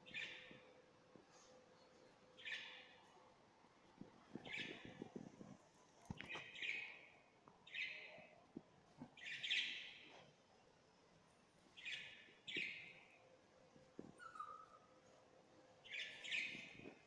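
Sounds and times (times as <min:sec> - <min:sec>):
small caged birds chirping: 0:00.0 - 0:17.0.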